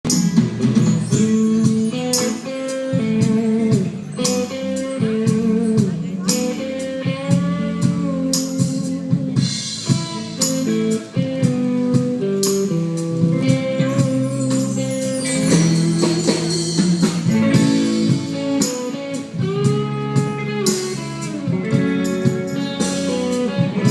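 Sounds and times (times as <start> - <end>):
guitar: 0.0 - 23.9
steady drum beat: 0.0 - 23.9.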